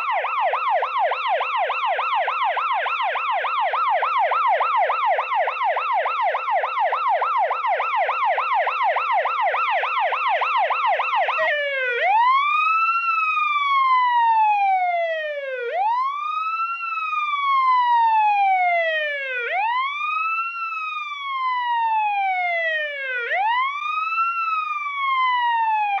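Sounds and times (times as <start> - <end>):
emergency siren yelp and wail: 0.0 - 26.0.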